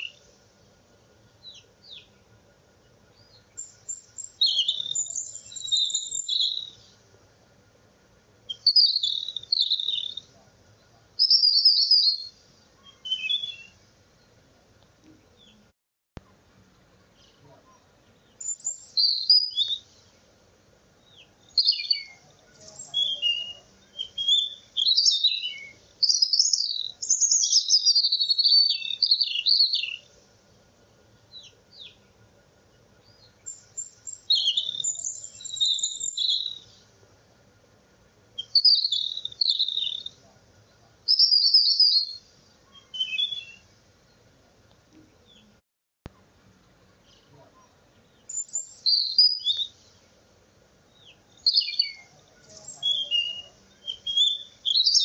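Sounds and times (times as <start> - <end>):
songbird singing: 0.0 - 37.6, 38.2 - 46.2, 46.8 - 55.0.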